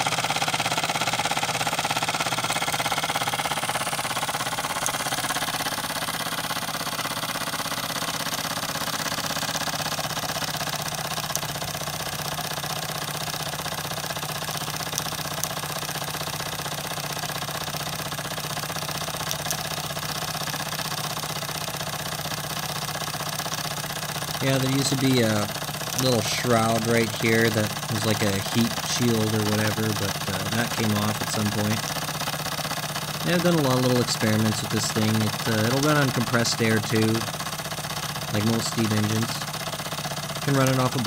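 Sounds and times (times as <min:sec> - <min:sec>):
flywheel and governor whirring: 0:00.0 - 0:41.0
toy steam engine chuffing: 0:00.0 - 0:41.0.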